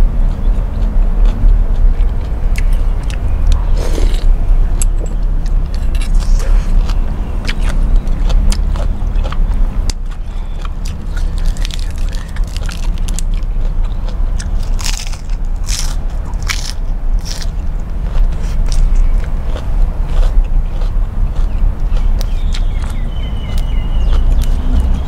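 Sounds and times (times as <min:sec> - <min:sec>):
chewing crisp lettuce: 0:00.0 - 0:25.0
low steady hum: 0:00.0 - 0:25.0.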